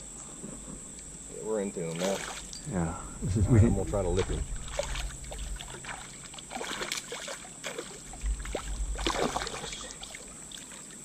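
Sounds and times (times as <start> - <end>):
creek water splashing: 1.8 - 11.0.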